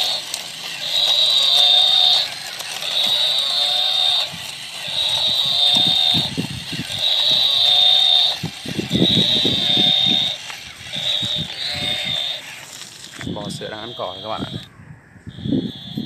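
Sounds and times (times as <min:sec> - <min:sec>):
toy walking mechanism clicking: 0:00.0 - 0:14.7, 0:15.3 - 0:16.0
toy electronic sound effect: 0:00.0 - 0:16.0.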